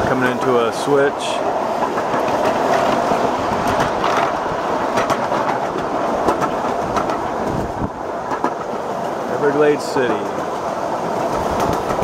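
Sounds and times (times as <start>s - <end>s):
miniature train rumbling on track: 0.0s - 12.0s
irregular clicks and clacks: 1.4s - 12.0s.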